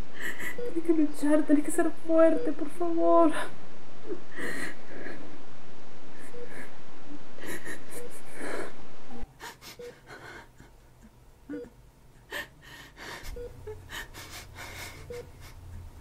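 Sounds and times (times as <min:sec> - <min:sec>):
woman crying and sobbing: 0:00.0 - 0:05.3, 0:06.2 - 0:06.7, 0:07.4 - 0:16.0.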